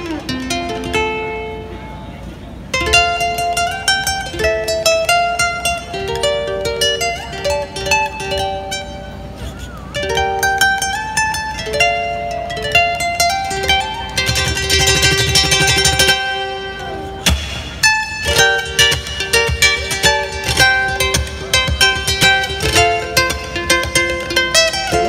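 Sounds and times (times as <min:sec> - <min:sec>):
rapid ukulele strumming: 0:00.0 - 0:25.0
ukulele picked melody: 0:00.0 - 0:25.0.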